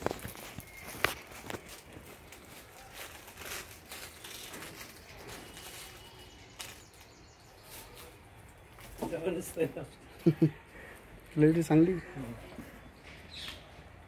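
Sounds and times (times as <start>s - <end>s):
footsteps on dry leaves: 0.0s - 13.7s.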